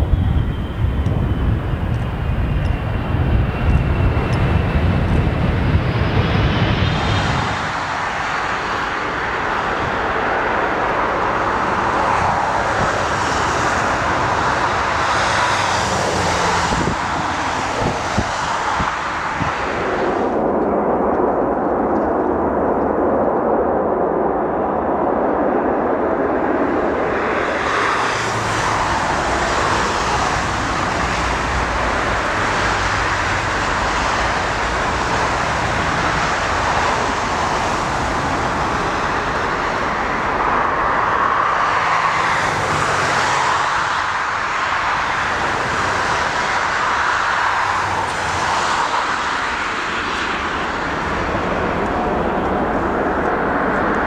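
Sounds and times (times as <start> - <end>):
jet engine deep rumble: 0.0 - 54.0
steady jet engine noise: 0.0 - 54.0.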